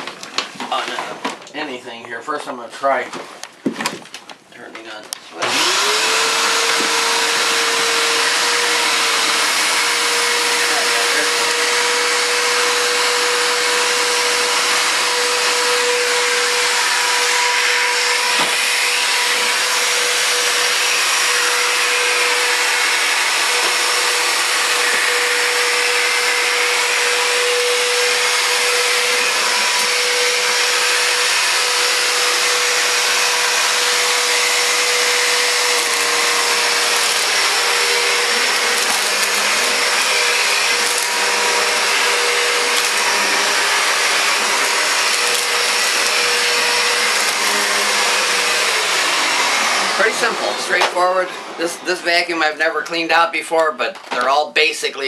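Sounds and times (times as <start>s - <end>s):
vacuum cleaner whine: 5.3s - 53.1s.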